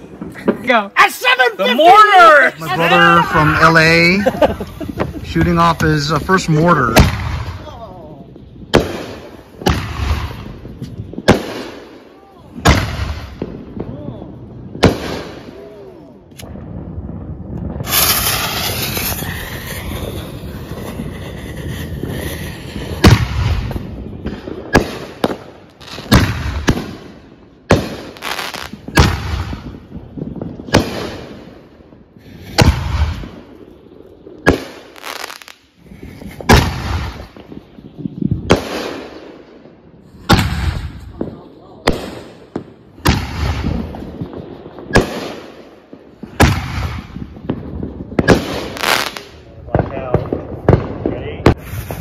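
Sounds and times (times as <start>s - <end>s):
firework fuse hissing: 0.0s - 13.4s, 17.6s - 41.2s, 41.9s - 49.6s, 51.5s - 52.0s
sharp firework bangs: 2.8s - 14.1s, 14.7s - 15.8s, 16.4s - 33.6s, 34.3s - 39.4s, 40.0s - 52.0s.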